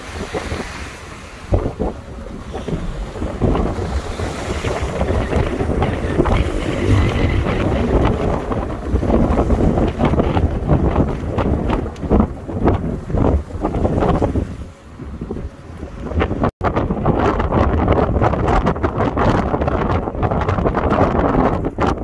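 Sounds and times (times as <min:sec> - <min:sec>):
surf breaking on beach: 0:00.0 - 0:18.6
gusty wind buffeting microphone: 0:00.0 - 0:22.0.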